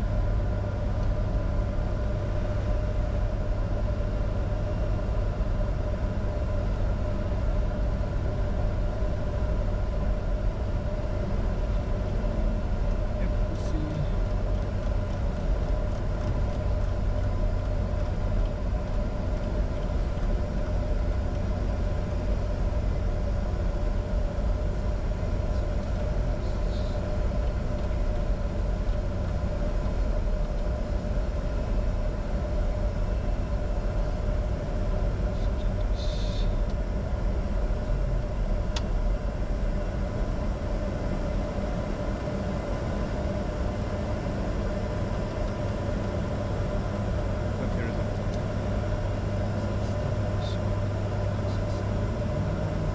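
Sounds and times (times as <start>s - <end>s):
constant hum: 0.0s - 52.9s
jet engine rumble and airflow: 0.0s - 52.9s.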